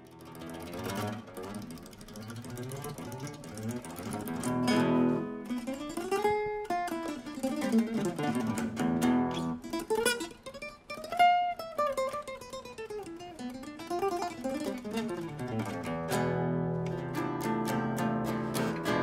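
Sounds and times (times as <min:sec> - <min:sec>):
acoustic guitar fingerpicking: 0:00.0 - 0:19.0
strummed guitar chords: 0:00.0 - 0:19.0.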